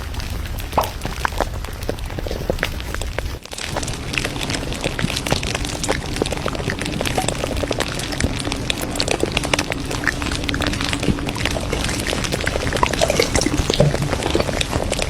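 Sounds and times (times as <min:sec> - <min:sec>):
crackling and popping: 0:00.0 - 0:15.0.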